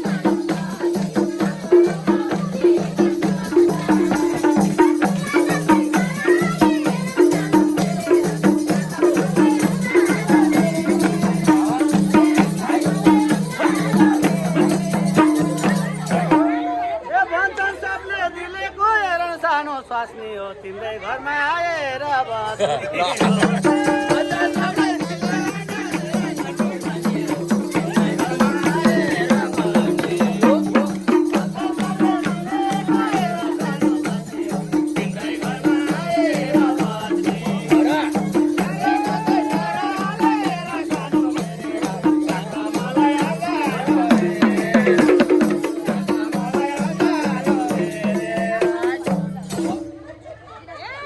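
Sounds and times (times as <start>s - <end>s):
drum beating fast rhythm: 0.0s - 16.7s, 23.0s - 50.0s.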